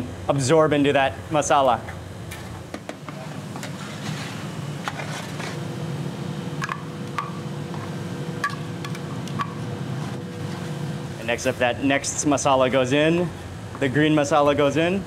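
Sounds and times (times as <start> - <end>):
low kitchen hum: 0.0 - 15.0.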